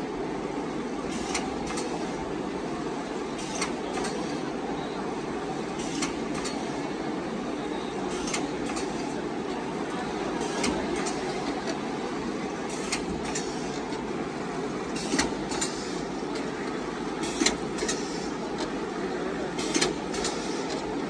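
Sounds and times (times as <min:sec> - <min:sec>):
shrink wrapping machine hum: 0:01.0 - 0:21.0.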